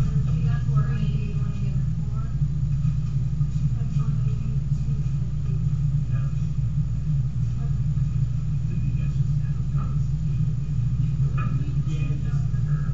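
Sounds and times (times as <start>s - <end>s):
faint indistinct voices: 0.0s - 12.9s
low-pitched hum: 0.0s - 12.9s.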